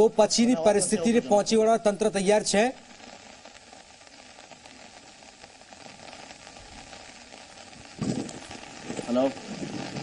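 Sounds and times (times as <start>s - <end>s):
heavy rain hissing: 0.0s - 10.0s.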